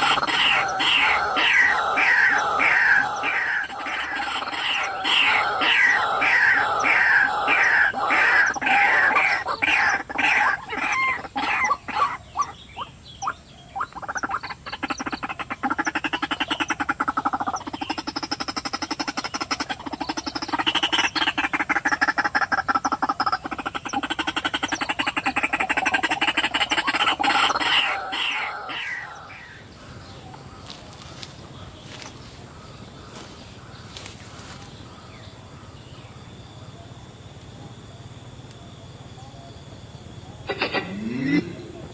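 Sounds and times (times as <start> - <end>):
waterhen calling: 0.0 - 34.8, 40.5 - 41.9
croaking bird calls: 0.0 - 41.9.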